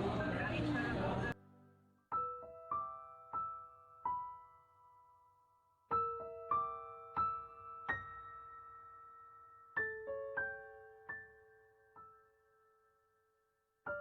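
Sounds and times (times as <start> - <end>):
gentle solo piano melody: 1.3 - 14.0.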